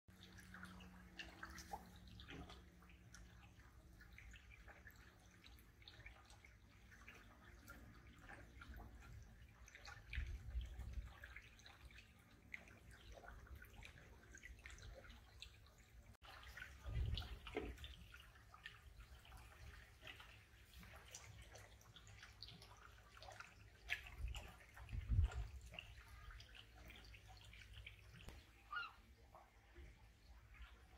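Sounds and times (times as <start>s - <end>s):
water dripping and trickling: 0.1s - 30.9s.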